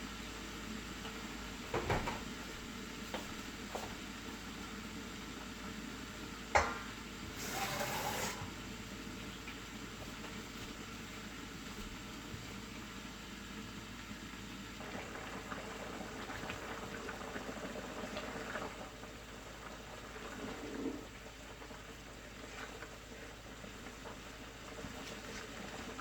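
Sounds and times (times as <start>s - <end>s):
sauce bubbling in a pot: 0.0s - 26.0s.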